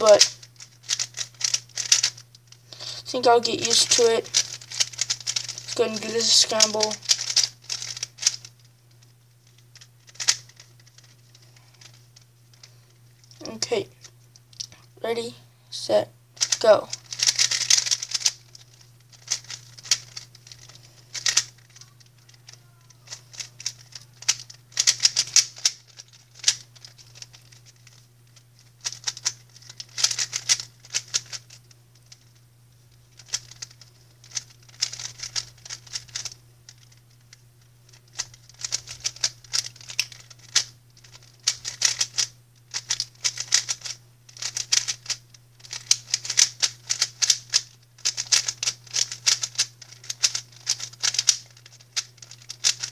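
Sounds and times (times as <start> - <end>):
plastic puzzle cube clacking: 0.0 - 2.2, 3.6 - 8.5, 9.8 - 12.0, 16.4 - 28.0, 28.8 - 32.2, 33.2 - 37.0, 37.9 - 52.9
steady low hum: 0.0 - 52.9.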